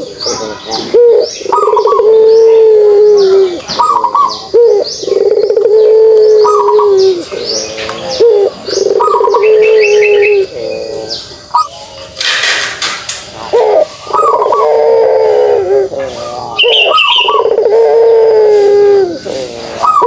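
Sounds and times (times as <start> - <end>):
dove cooing call: 0.0 - 11.8, 13.4 - 20.0
small birds chirping: 0.0 - 12.3, 13.0 - 20.0.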